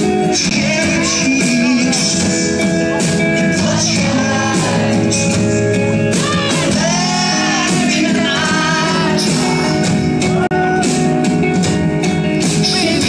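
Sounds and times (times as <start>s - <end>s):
person singing: 0.0s - 11.2s, 12.1s - 13.0s
electric guitars: 0.0s - 13.0s
rock band playing: 0.0s - 13.0s.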